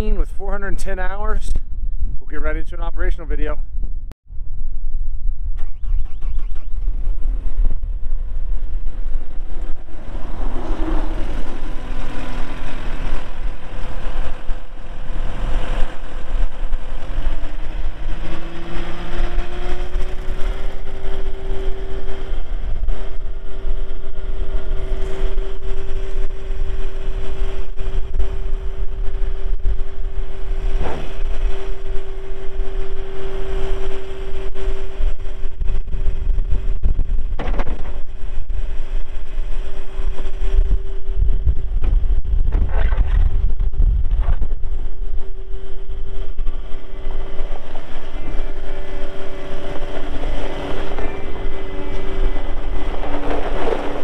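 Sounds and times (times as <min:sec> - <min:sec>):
wind buffeting microphone: 0:00.0 - 0:54.0
diesel engine running: 0:05.8 - 0:54.0.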